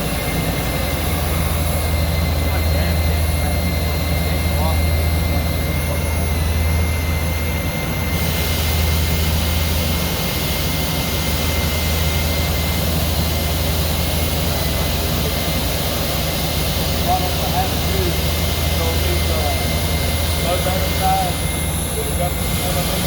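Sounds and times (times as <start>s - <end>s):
drill cutting through steel: 0.0s - 23.0s.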